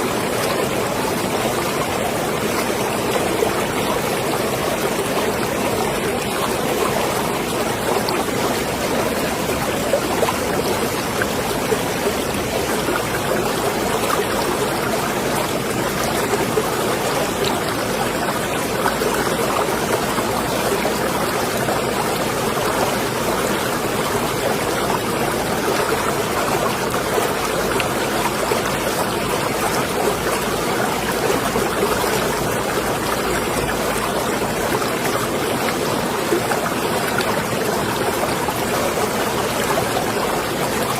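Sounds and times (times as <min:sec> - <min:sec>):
water lapping and trickling: 0:00.0 - 0:40.9.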